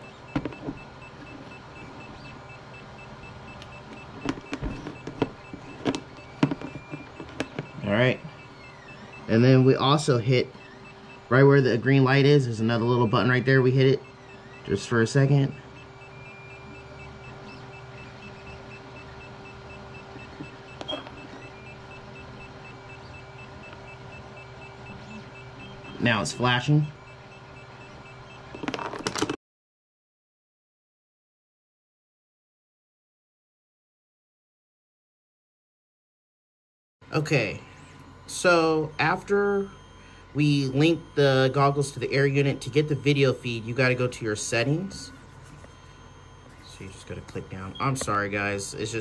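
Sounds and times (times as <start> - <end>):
rapidly pulsing high tone: 0.0 - 28.6, 37.2 - 49.0
fast faint beeping: 0.0 - 28.8, 37.1 - 49.0
steady electrical hum: 0.0 - 29.3, 37.0 - 49.0.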